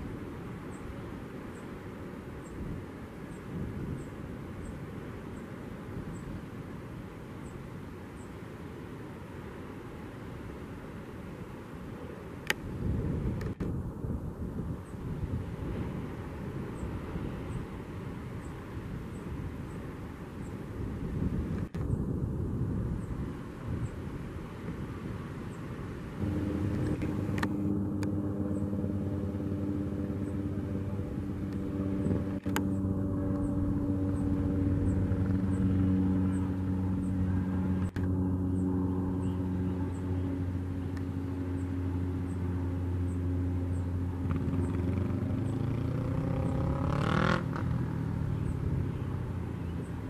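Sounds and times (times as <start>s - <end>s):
turboprop aircraft droning: 0.0s - 50.0s.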